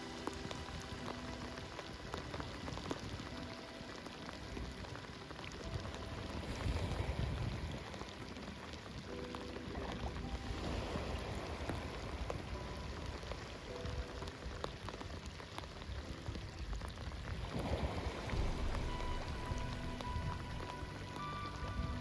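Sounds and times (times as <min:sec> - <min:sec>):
rain falling: 0:00.0 - 0:22.0
raindrops striking close by: 0:00.0 - 0:22.0.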